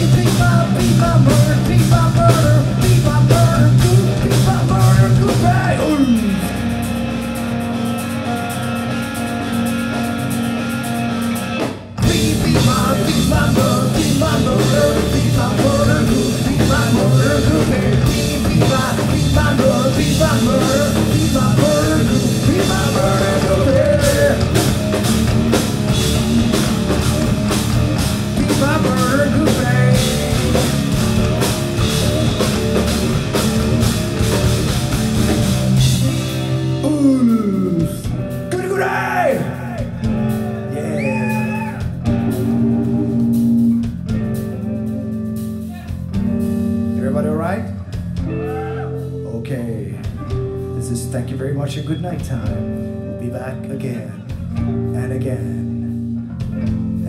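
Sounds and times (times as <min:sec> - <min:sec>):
metal band playing: 0:00.0 - 0:57.0.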